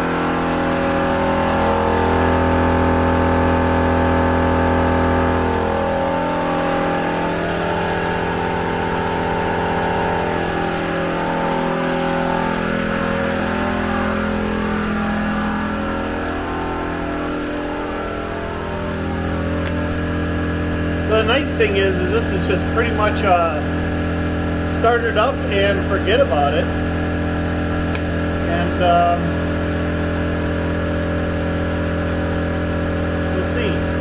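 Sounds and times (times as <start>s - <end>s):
air compressor running: 0.0s - 34.0s.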